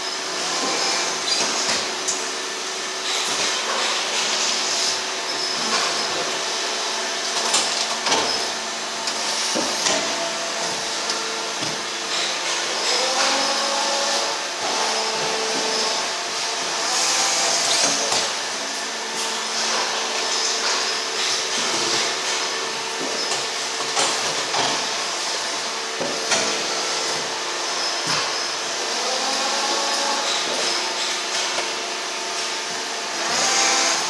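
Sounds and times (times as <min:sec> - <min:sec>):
machine hum and hiss: 0:00.0 - 0:34.0.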